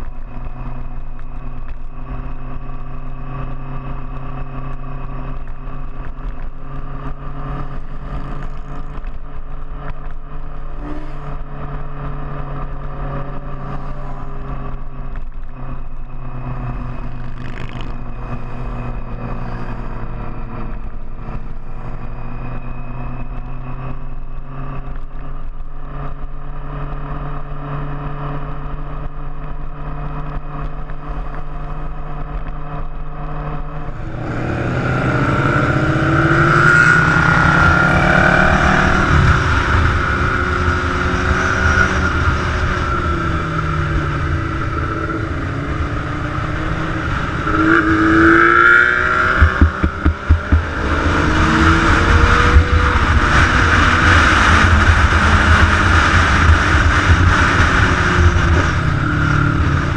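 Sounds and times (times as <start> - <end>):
motorcycle engines running: 0.0 - 59.9
motorcycles revving: 0.0 - 59.9.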